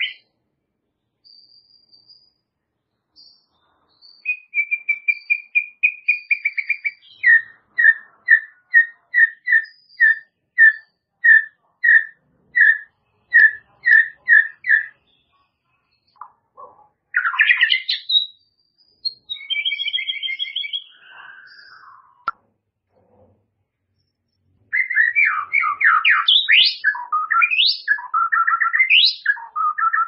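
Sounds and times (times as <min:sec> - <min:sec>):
songbird singing: 0:00.0 - 0:00.4, 0:01.0 - 0:22.4, 0:23.9 - 0:30.0.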